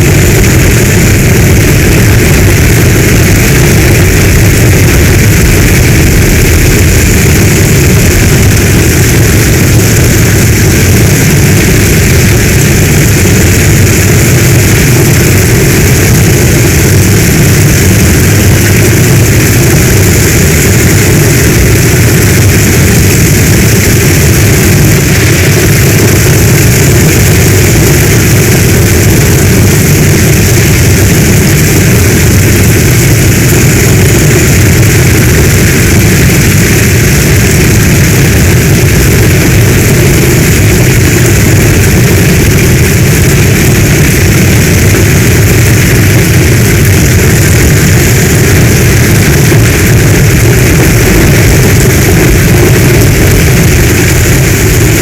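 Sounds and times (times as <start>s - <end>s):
deep rumble: 0.0s - 55.0s
heavy storm rain: 0.0s - 55.0s.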